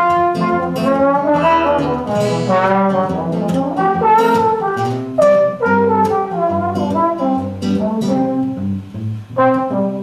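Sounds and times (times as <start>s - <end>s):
acoustic guitar accompaniment: 0.0s - 10.0s
trombone jazz melody: 0.0s - 10.0s.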